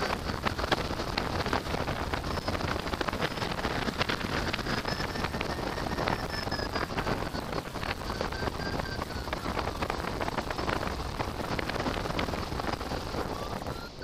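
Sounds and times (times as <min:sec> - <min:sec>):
variometer beeping rapidly: 0:00.0 - 0:14.0
wind buffeting microphone: 0:00.0 - 0:14.0.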